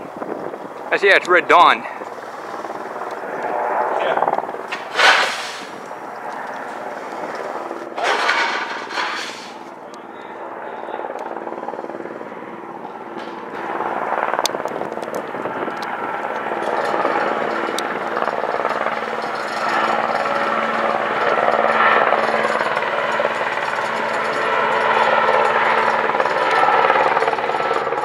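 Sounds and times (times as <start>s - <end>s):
helicopter rotor and turbine noise: 0.0s - 28.0s.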